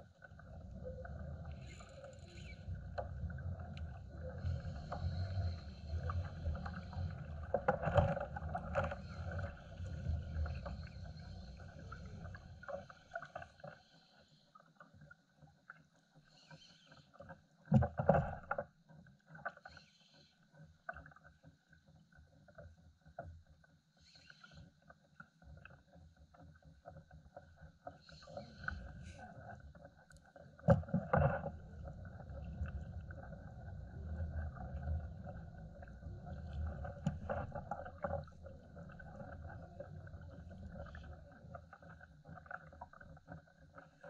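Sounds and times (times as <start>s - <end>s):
waves lapping against plastic hull: 0.0s - 13.9s, 16.8s - 19.8s, 24.3s - 44.0s.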